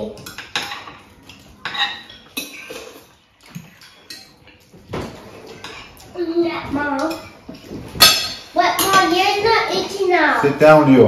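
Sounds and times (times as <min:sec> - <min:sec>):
cutlery clinking on plates: 0:00.0 - 0:09.5.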